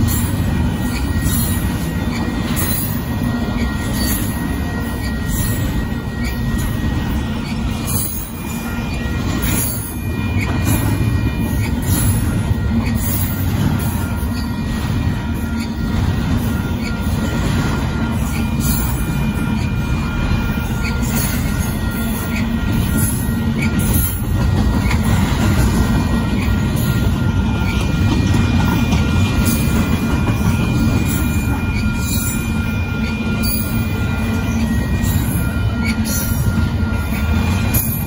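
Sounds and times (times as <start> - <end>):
high wheel squeal: 0.0 - 38.0
train wheels rumbling on rail: 0.0 - 38.0.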